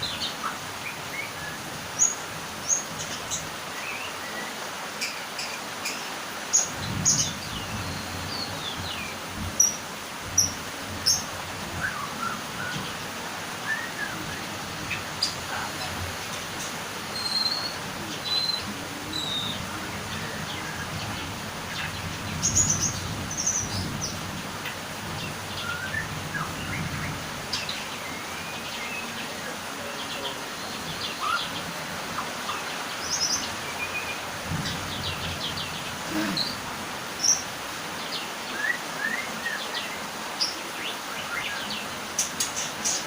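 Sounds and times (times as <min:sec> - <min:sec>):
songbirds chirping: 0:00.0 - 0:43.0
steady background hiss: 0:00.0 - 0:43.0.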